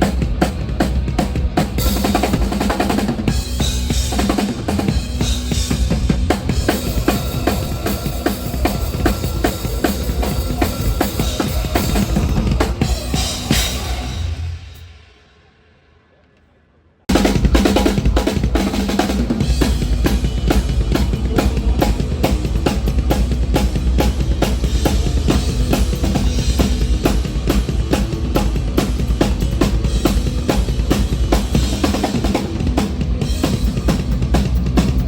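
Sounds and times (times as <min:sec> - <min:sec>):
drum kit played fast: 0:00.0 - 0:15.2, 0:17.1 - 0:35.0.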